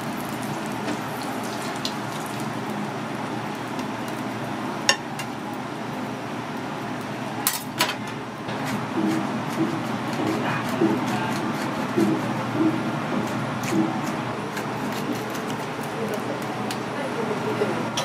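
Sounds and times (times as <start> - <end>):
griddle sizzling hiss: 0.0 - 14.9.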